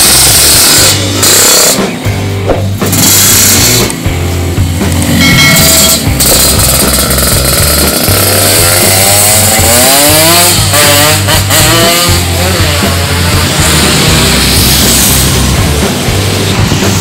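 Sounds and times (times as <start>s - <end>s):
background music: 0.0s - 17.0s
two-stroke engine revving: 0.0s - 17.0s.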